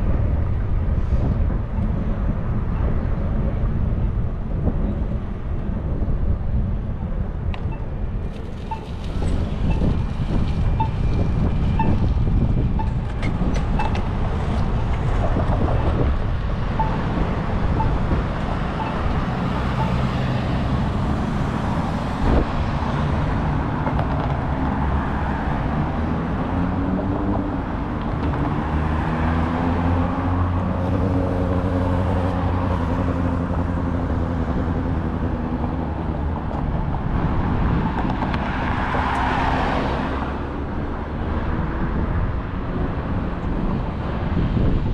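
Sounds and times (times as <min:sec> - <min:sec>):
street traffic: 0:00.0 - 0:44.9.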